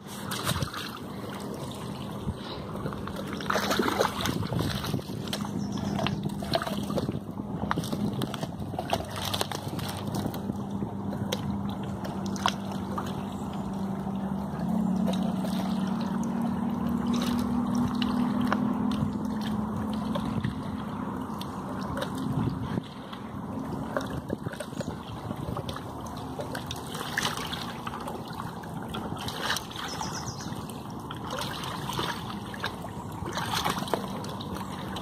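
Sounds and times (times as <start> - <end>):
river water splashing: 0.0 - 35.0.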